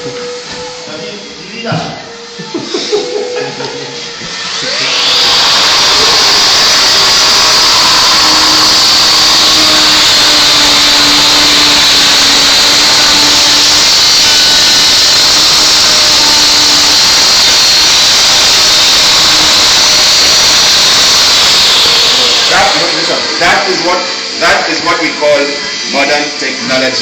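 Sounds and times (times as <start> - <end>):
electric power tool running: 3.0 - 27.0.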